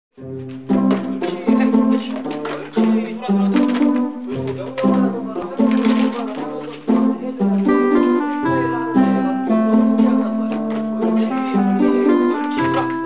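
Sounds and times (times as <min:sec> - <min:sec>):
instrumental background music: 0:00.2 - 0:13.0.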